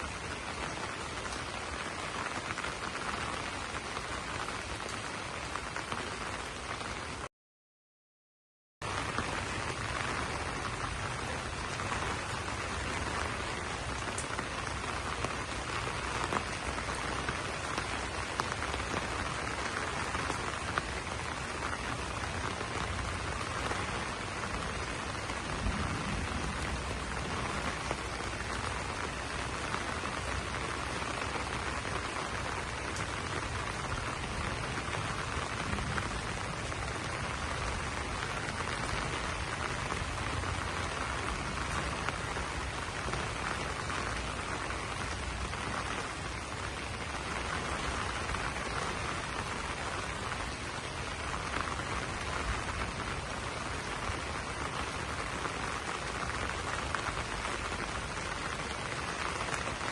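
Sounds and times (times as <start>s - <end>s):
rain falling on leaves: 0.0s - 7.3s, 8.8s - 59.9s.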